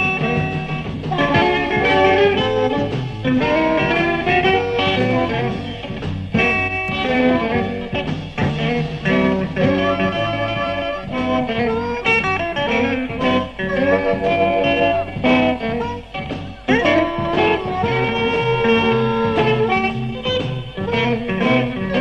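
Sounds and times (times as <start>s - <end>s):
blues band playing: 0.0s - 22.0s
electric guitar: 0.0s - 22.0s.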